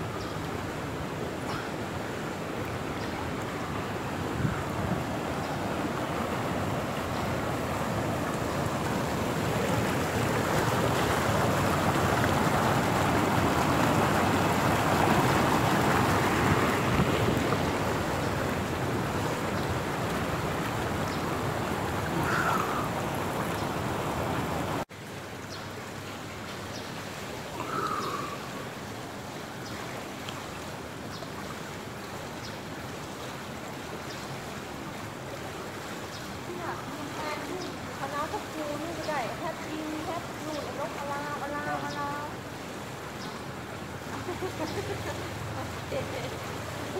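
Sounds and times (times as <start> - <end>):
pool water lapping and splashing: 0.0 - 46.9.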